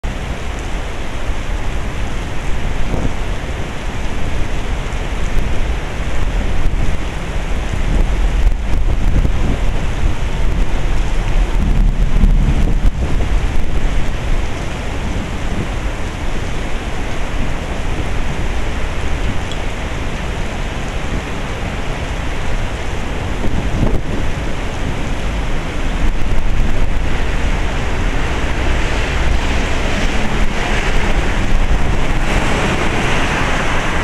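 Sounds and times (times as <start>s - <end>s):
torrential rain pouring: 0.0s - 34.0s
wind rumbling on microphone: 0.0s - 34.0s.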